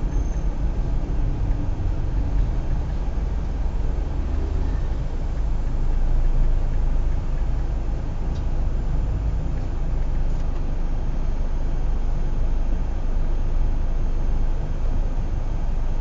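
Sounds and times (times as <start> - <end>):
low engine rumble: 0.0 - 16.0
street traffic: 0.0 - 16.0.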